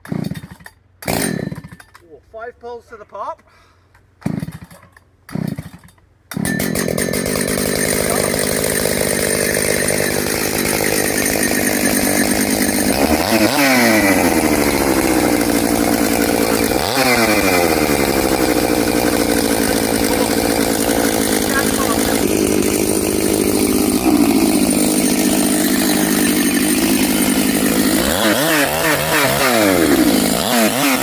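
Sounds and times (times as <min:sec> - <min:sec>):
chainsaw starting and running: 0:00.0 - 0:02.0, 0:04.2 - 0:31.0.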